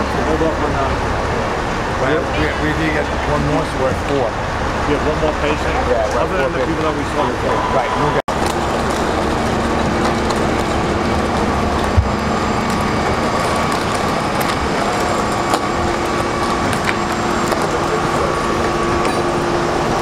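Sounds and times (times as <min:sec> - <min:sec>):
engines running: 0:00.0 - 0:20.0.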